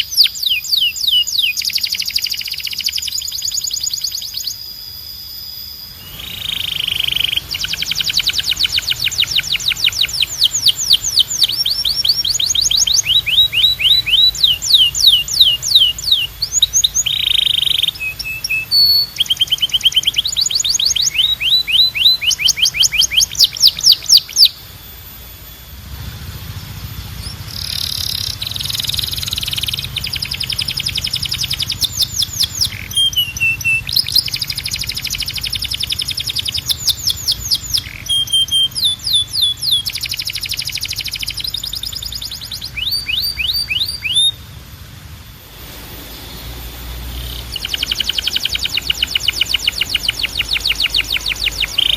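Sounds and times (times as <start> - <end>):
canary singing trills: 0.0 - 44.6, 45.6 - 51.9
low hum: 4.2 - 51.9.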